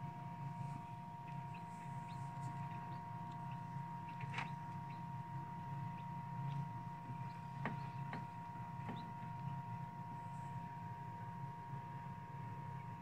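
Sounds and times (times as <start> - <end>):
fan motor humming: 0.0 - 13.0.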